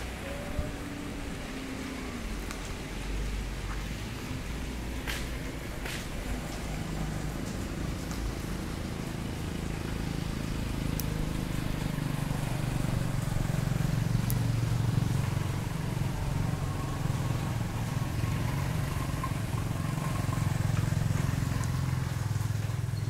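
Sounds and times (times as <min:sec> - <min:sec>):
low motor drone: 0:00.0 - 0:22.4.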